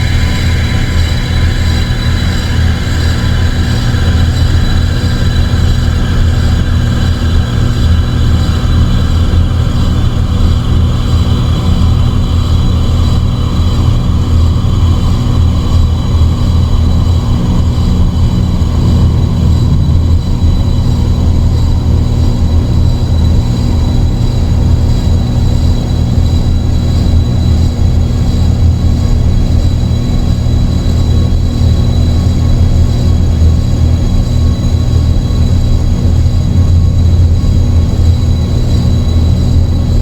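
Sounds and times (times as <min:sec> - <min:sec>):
dark ambient drone music: 0:00.0 - 0:40.0.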